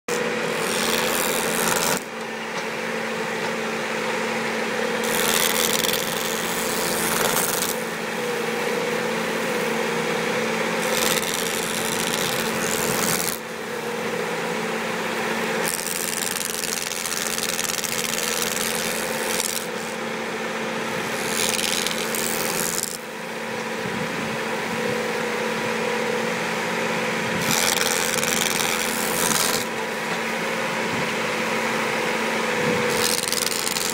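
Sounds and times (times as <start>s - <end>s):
fence trimmer machine drone: 0.0s - 33.9s
strimmer heads cutting grass: 0.1s - 33.9s.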